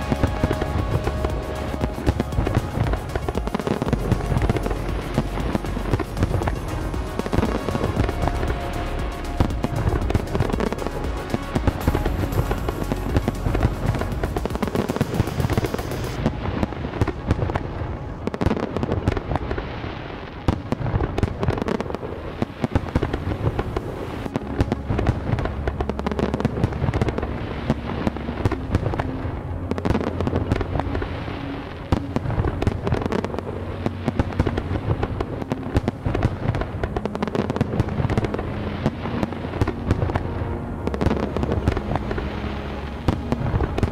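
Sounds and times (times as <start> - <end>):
music playing: 0.0 - 19.3, 20.9 - 43.9
fireworks bursting: 0.0 - 43.9.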